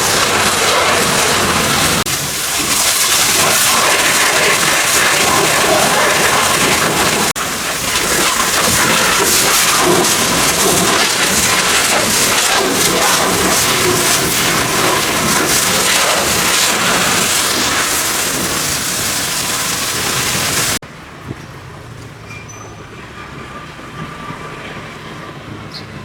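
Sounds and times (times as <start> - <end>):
pressure washer spraying: 0.0 - 20.8.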